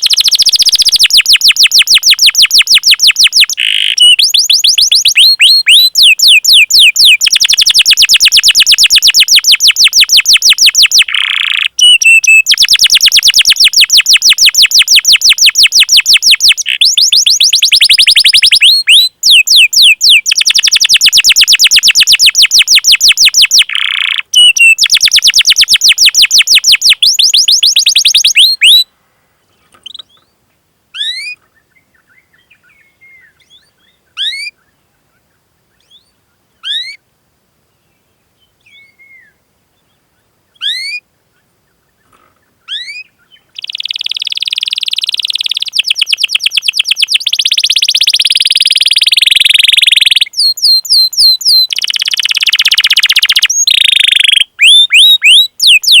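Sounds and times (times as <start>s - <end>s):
canary singing trills: 0.0s - 28.9s, 31.0s - 34.7s, 35.7s - 37.0s, 40.5s - 41.0s, 42.0s - 56.0s.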